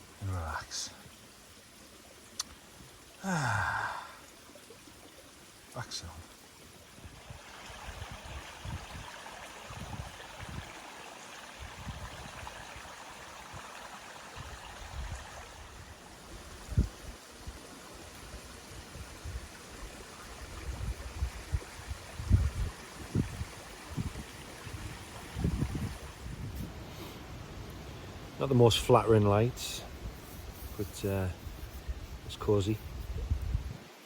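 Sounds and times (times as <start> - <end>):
stream rushing: 0.0 - 34.0.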